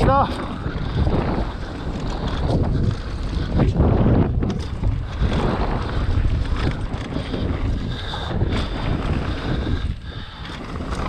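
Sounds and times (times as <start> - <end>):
mountain bike rumbling and clattering: 0.0 - 11.0
wind buffeting microphone: 0.0 - 11.0.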